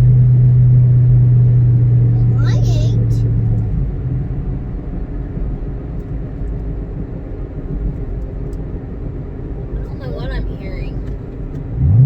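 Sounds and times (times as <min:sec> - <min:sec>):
car engine from inside cabin: 0:00.0 - 0:12.0
road noise: 0:00.0 - 0:12.0.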